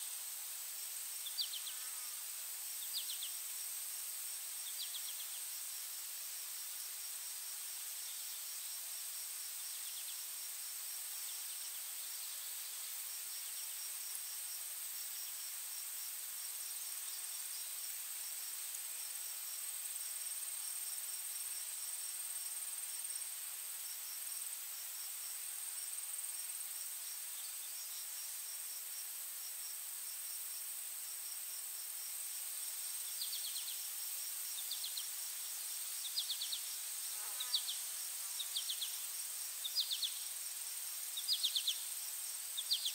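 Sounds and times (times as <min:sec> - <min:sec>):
soft hiss: 0:00.0 - 0:42.9
insects trilling: 0:00.6 - 0:23.2, 0:23.8 - 0:42.9.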